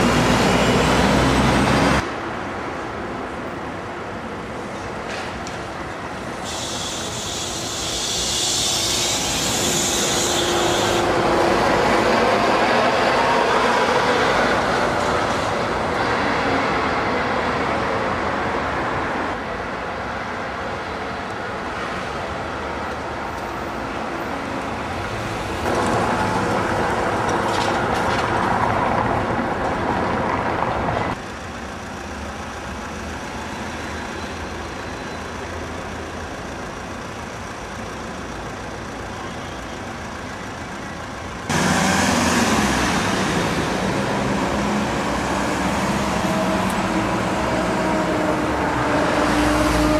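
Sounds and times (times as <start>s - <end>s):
trolleybuses driving past: 0.0s - 49.9s.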